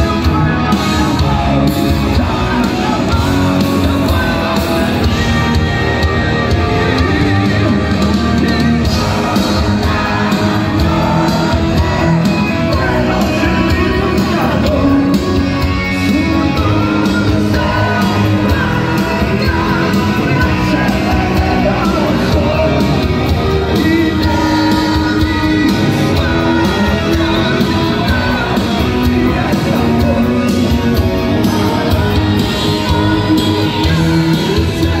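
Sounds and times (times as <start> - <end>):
drums: 0.0 - 35.0
live rock band: 0.0 - 35.0
person singing: 0.0 - 35.0.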